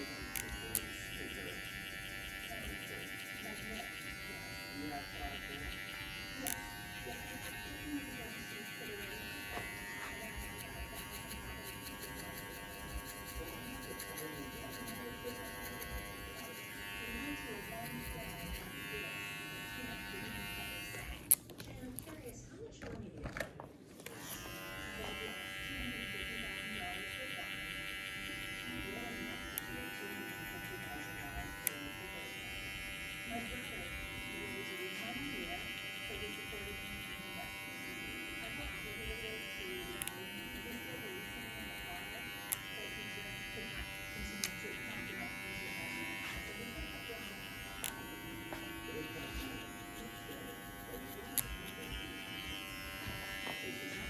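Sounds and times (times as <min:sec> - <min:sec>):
electric hair clippers buzzing: 0:00.0 - 0:21.5, 0:24.0 - 0:54.0.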